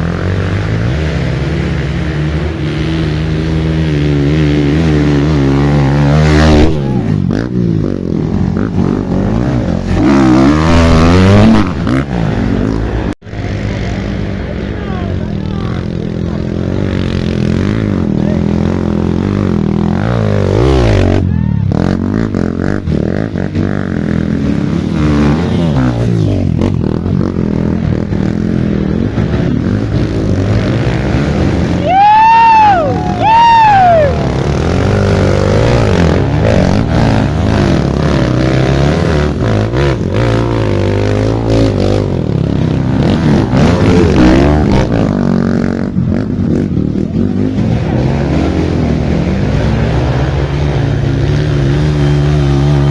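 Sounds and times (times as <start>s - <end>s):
motorcycle engines revving: 0.0s - 52.9s.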